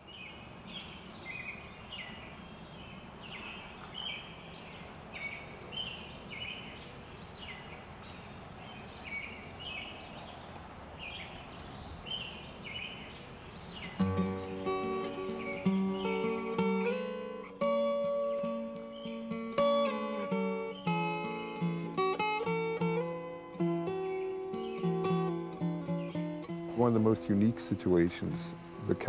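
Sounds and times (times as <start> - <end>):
birds chirping: 0.0 - 29.0
outdoor background hiss: 0.0 - 29.0.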